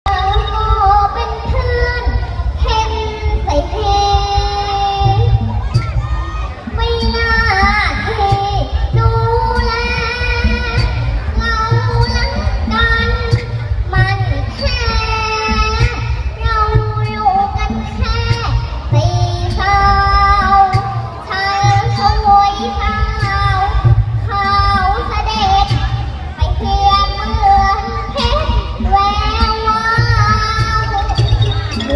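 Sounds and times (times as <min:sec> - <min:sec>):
backing track with steady beat: 0:00.0 - 0:31.9
child singing: 0:00.1 - 0:31.9
high percussion ticks: 0:00.1 - 0:31.9.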